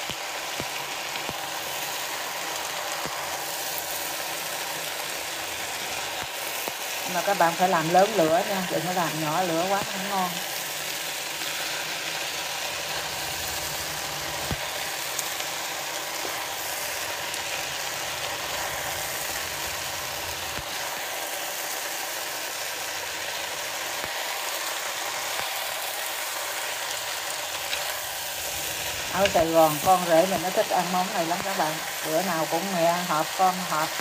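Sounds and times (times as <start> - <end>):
noodles sizzling in a frying pan: 0.0 - 34.0.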